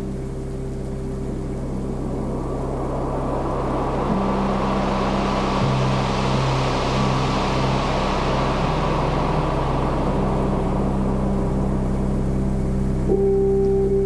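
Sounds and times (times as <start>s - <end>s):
water rushing past: 0.0s - 13.2s
boat motor humming: 0.0s - 14.0s
steady high tone: 0.0s - 14.0s.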